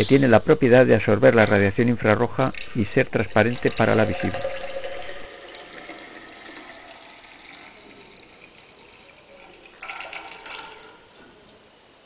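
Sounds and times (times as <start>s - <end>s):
liquid trickling through a funnel: 1.3s - 11.3s.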